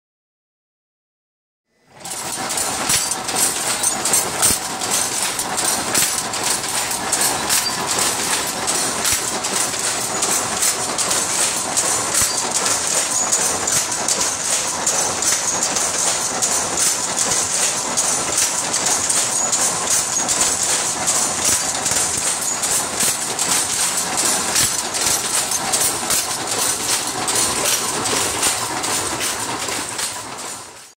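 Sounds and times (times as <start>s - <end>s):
loom clattering: 2.0s - 30.9s.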